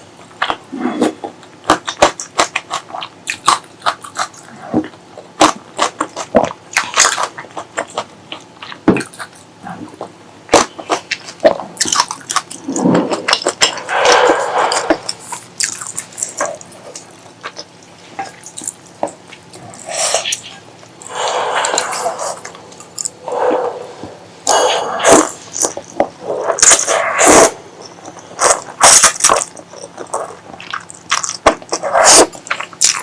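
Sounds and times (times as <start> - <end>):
chewing mouth clicks and smacks: 1.6 - 23.4, 27.8 - 33.0.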